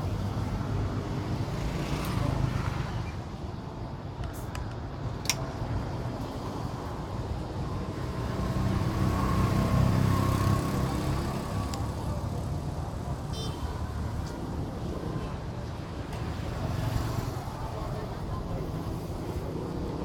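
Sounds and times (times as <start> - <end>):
low rumble of passing vehicles: 0.0 - 20.0.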